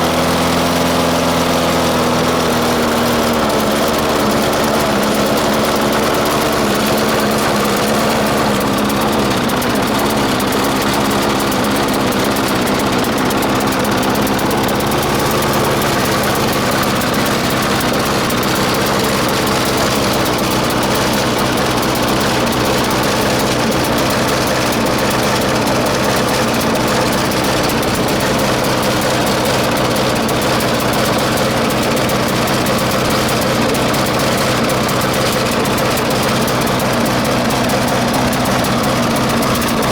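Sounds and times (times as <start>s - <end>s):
lawnmower engine idling: 0.0s - 39.9s.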